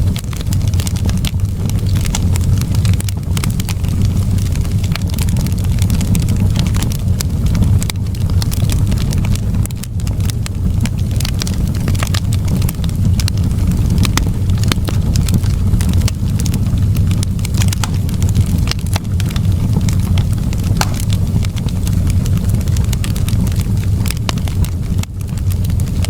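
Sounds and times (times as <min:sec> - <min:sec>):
low rumble of fire: 0:00.0 - 0:26.0
wood fire crackling and popping: 0:00.0 - 0:26.0.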